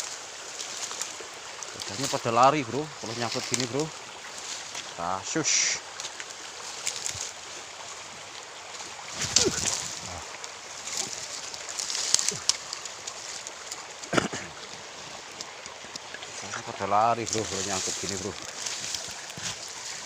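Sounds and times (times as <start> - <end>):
small stream running: 0.0 - 20.0.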